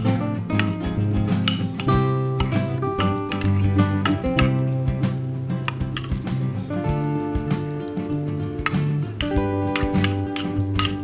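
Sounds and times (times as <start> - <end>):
kitchenware clinking: 0.0 - 6.4, 8.1 - 11.0
plucked guitar music: 0.0 - 11.0.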